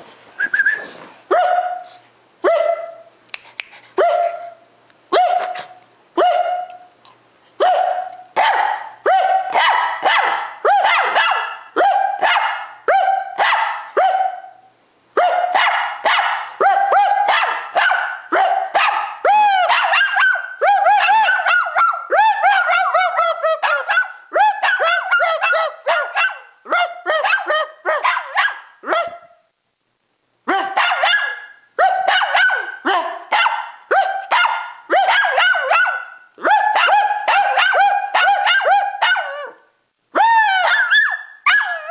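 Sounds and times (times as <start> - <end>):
dog yelping: 1.3 - 3.1, 4.0 - 6.9, 7.6 - 14.6, 15.2 - 29.4, 30.5 - 41.9
small dog barking: 1.3 - 3.1, 4.0 - 6.9, 7.6 - 14.6, 15.2 - 29.5, 30.5 - 39.7, 40.4 - 41.9.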